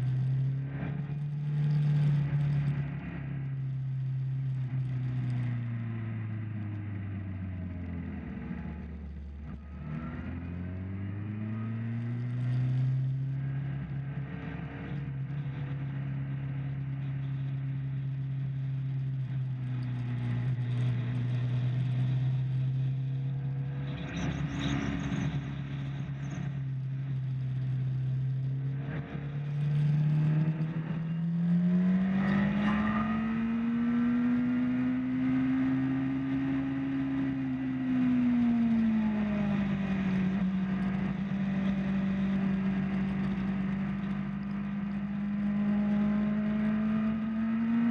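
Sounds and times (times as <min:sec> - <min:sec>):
motorcycle engine at speed: 0:00.0 - 0:47.9.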